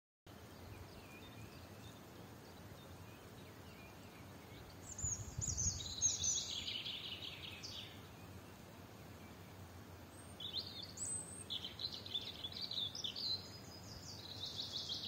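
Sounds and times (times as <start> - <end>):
songbirds chirping faintly: 0.3 - 15.0.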